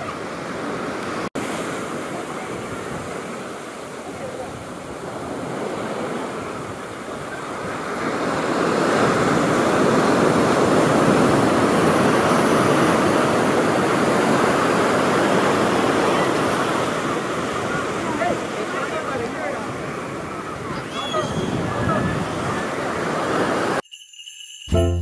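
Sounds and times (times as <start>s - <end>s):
ocean waves breaking: 0.0s - 23.8s.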